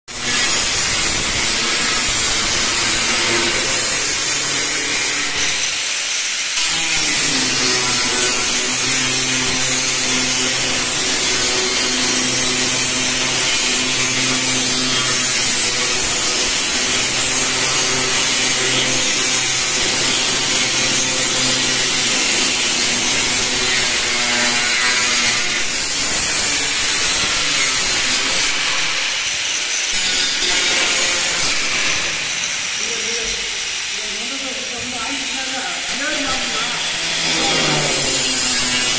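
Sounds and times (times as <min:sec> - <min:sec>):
grinder disc cutting metal: 0:00.1 - 0:38.9.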